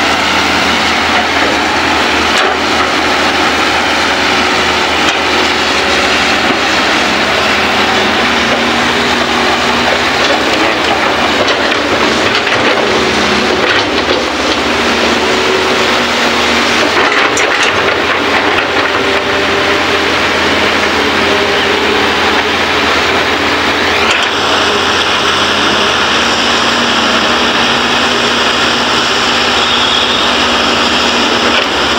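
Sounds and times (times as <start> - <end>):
excavator diesel engines and hydraulics: 0.0 - 31.9.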